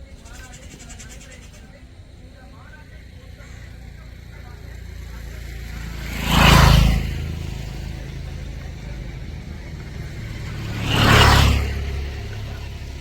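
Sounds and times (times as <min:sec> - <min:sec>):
low engine hum: 0:00.0 - 0:13.0
road vehicles passing: 0:00.0 - 0:13.0.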